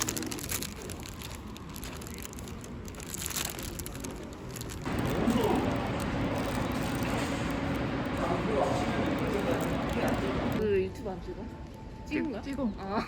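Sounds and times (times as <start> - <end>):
paper or plastic crinkling: 0.0 - 10.6
steady background noise: 0.0 - 13.0.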